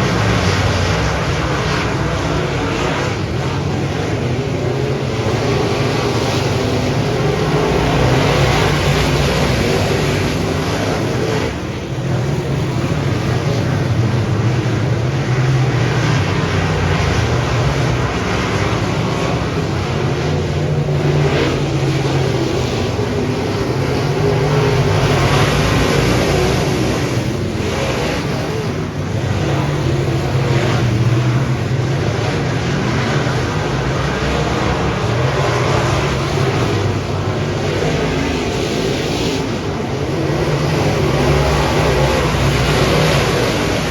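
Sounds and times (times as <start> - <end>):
race car engine running hard: 0.0 - 43.9.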